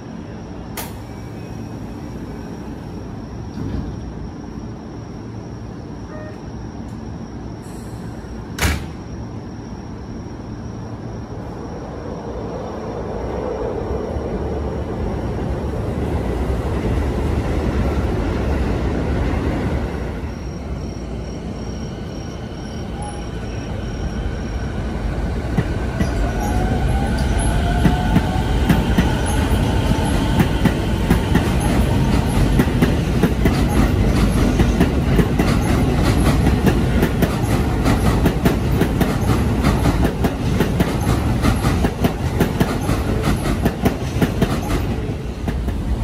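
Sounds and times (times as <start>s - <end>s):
electric train rumble: 0.0s - 46.0s
train pulling away: 0.1s - 9.0s, 10.0s - 46.0s.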